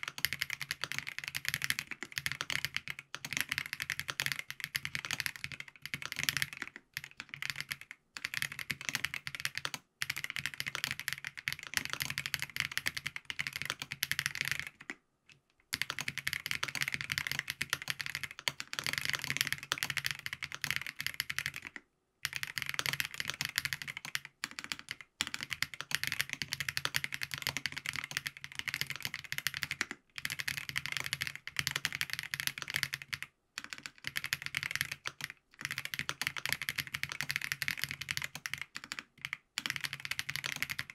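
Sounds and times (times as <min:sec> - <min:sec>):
fast mechanical keyboard typing: 0:00.0 - 0:14.9, 0:15.7 - 0:40.9.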